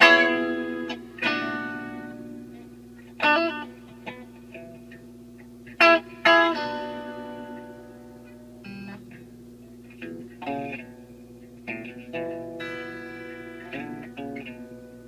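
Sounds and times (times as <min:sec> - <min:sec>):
guitar chords strummed: 0:00.0 - 0:15.0.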